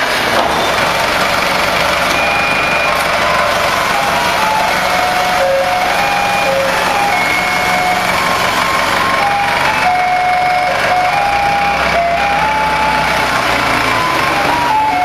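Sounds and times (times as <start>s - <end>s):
factory machinery din: 0.0s - 15.0s
electronic warning jingle: 2.1s - 15.0s.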